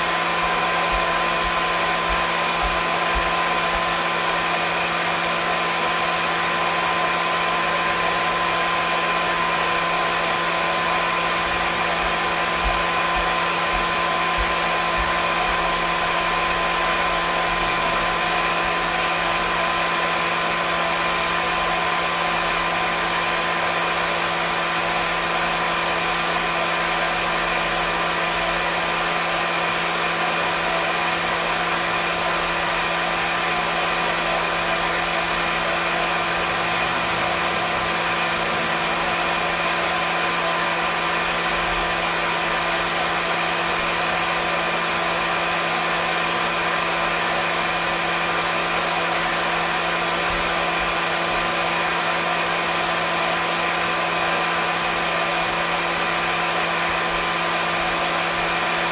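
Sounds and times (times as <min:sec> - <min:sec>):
hair dryer running: 0:00.0 - 0:58.9.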